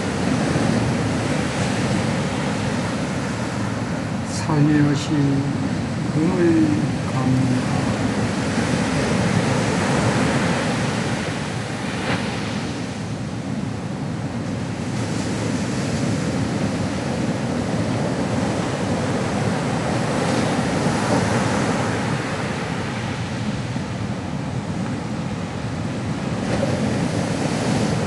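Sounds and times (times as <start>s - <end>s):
ocean waves washing on shore: 0.0s - 28.0s.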